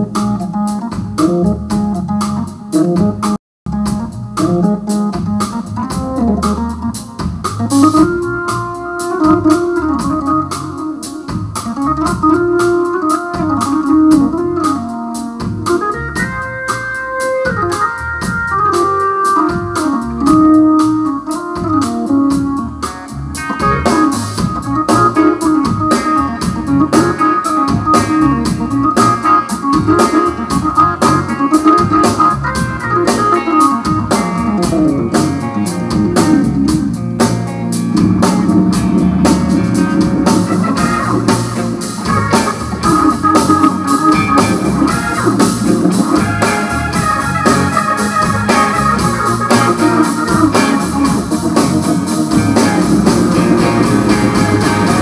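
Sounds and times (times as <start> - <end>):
drum kit beat: 0.0 - 55.0
organ solo: 0.0 - 55.0.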